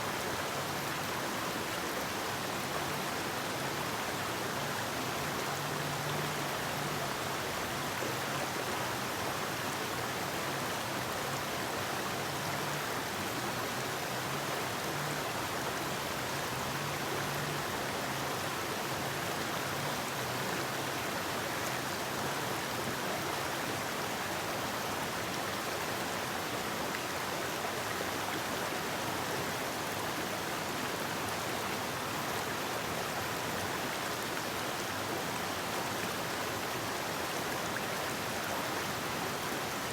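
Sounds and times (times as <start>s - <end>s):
river water rushing: 0.1s - 39.9s.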